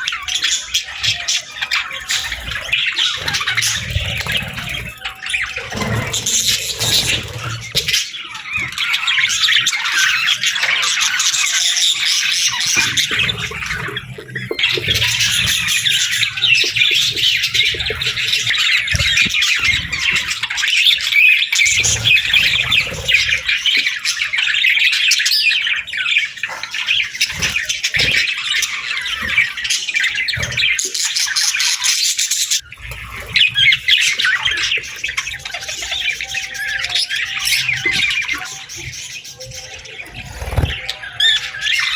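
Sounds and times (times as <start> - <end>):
budgerigars chirping and chattering: 0.0 - 41.9.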